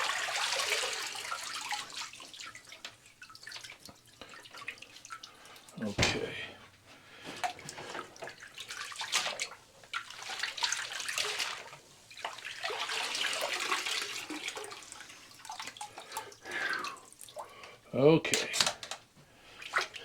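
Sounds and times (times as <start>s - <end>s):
water splashing and trickling: 0.0s - 6.5s, 7.2s - 17.6s.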